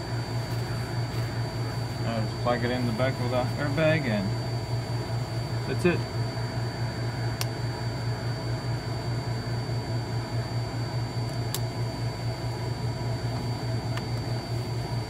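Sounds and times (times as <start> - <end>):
faint high whine: 0.0 - 15.0
low machine hum: 0.0 - 15.0.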